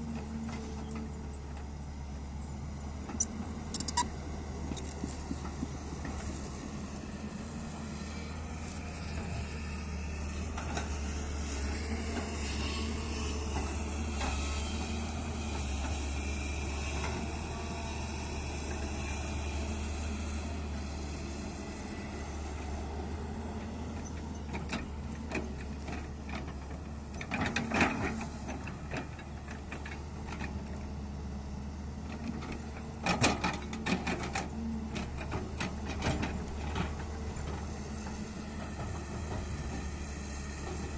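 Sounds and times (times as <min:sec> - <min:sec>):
excavator diesel engine drone: 0:00.0 - 0:40.9.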